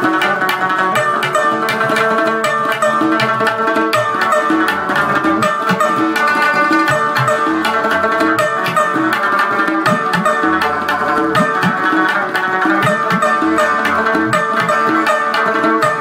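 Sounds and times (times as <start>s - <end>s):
plucked rubab notes: 0.0s - 16.0s
tabla rhythm: 0.0s - 16.0s.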